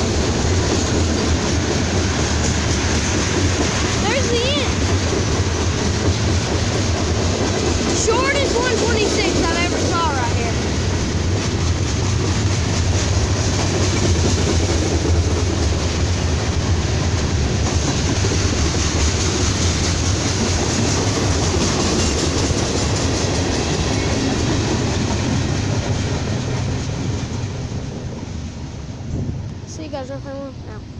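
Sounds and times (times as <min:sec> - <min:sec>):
freight train wheels rumbling on rail: 0:00.0 - 0:30.9.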